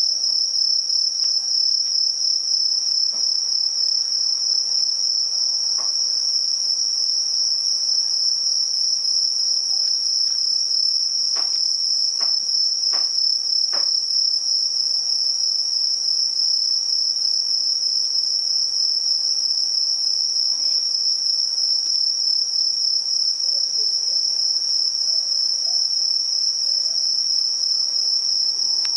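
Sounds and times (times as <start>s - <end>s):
crickets trilling: 0.0s - 28.9s.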